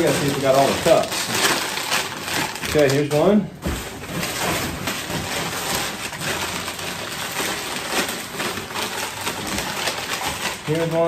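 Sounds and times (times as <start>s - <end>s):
packing paper crinkling: 0.0s - 11.0s.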